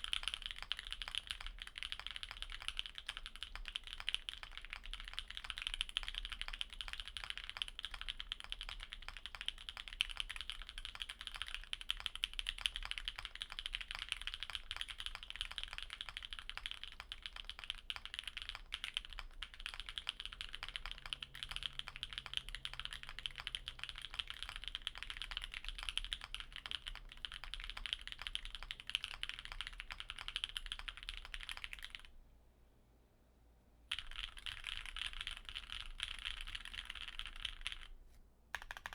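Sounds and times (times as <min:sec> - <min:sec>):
fast typing on mechanical keyboard: 0:00.0 - 0:32.1, 0:33.9 - 0:37.9, 0:38.6 - 0:38.9.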